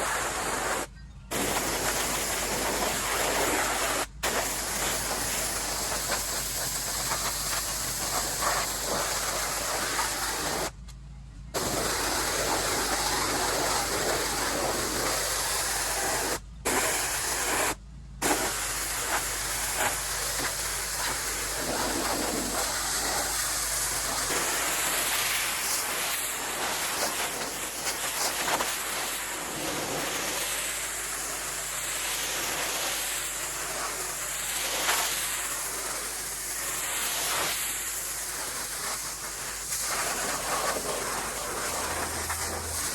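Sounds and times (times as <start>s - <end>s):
pressure washer spraying wood: 0.0s - 10.8s, 11.6s - 42.9s.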